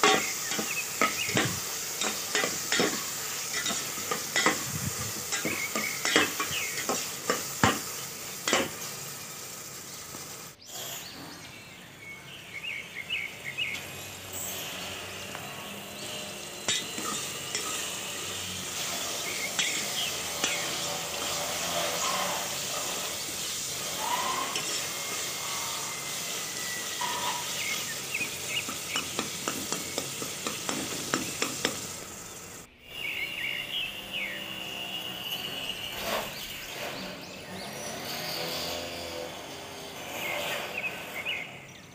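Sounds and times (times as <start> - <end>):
vegetables sizzling in oil: 0.0 - 11.0, 13.4 - 40.8.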